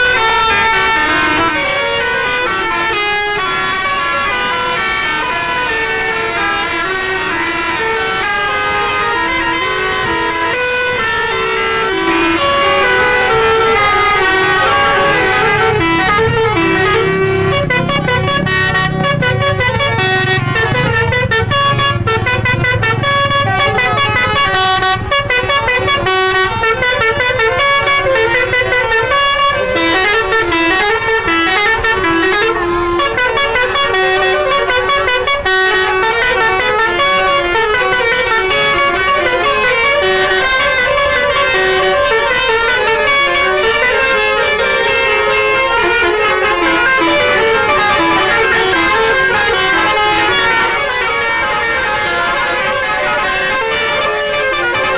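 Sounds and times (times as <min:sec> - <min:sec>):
bus horns blaring melodic tunes: 0:00.0 - 0:54.9
low engine rumble: 0:00.0 - 0:54.9.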